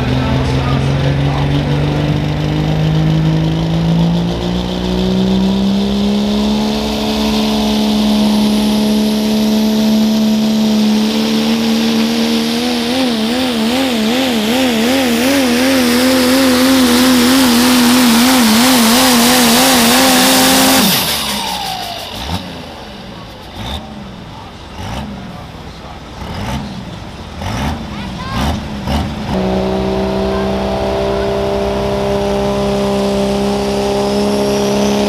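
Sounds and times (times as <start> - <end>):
diesel truck engine at full throttle: 0.0 - 35.0.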